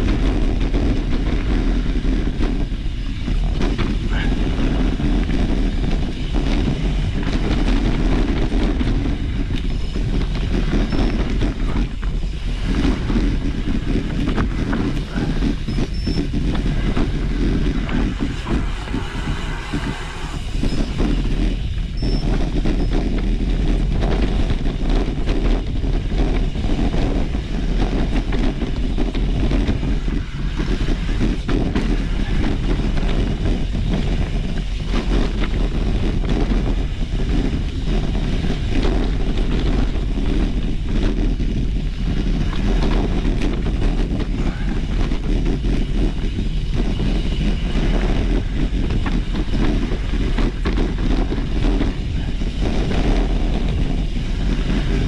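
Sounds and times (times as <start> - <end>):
bike rattling over rough ground: 0.0 - 55.0.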